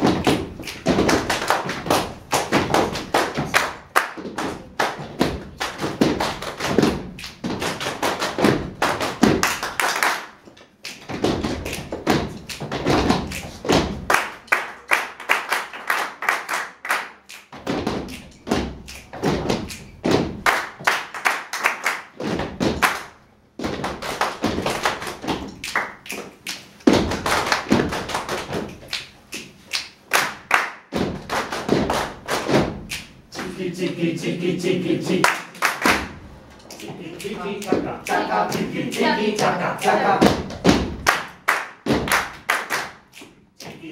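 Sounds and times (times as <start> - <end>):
body percussion claps and thumps: 0.0 - 33.5, 35.2 - 43.9.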